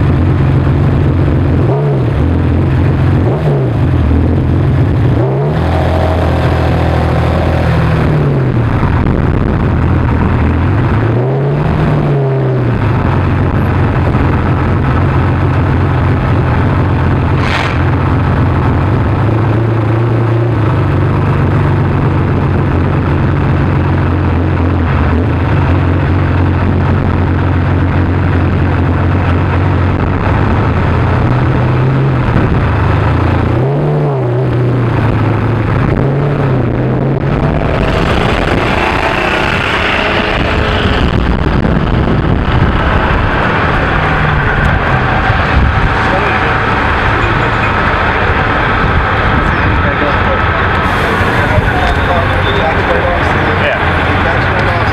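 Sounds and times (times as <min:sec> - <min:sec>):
car engine idling: 0:00.0 - 0:54.9
engine throttle blips: 0:00.0 - 0:54.9.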